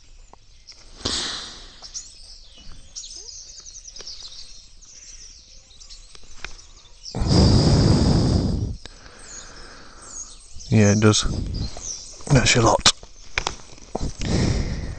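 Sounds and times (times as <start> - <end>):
small birds chirping and trilling: 0.0 - 14.9.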